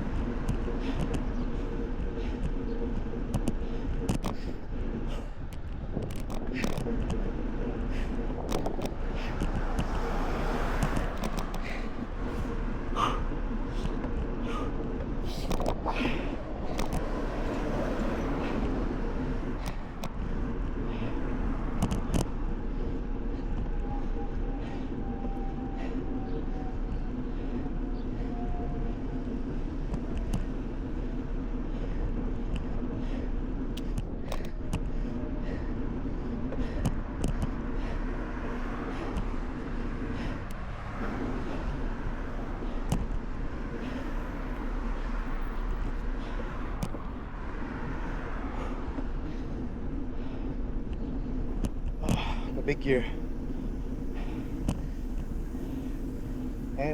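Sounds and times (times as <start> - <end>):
bike clicks and rattles: 0.0 - 56.9
tyre rumble on road: 0.0 - 56.9
wind on microphone: 0.0 - 56.9.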